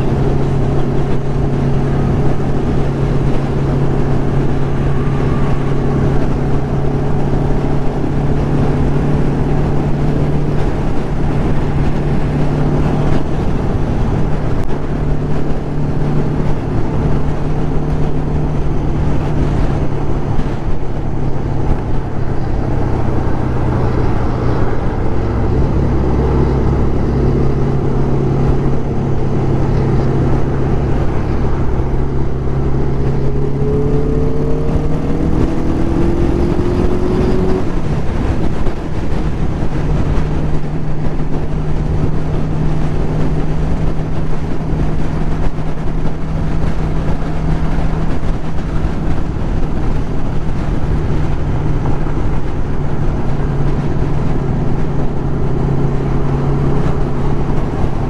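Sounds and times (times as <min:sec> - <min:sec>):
motorcycle engine cruising: 0:00.0 - 0:58.0
wind rush over microphone: 0:00.0 - 0:58.0.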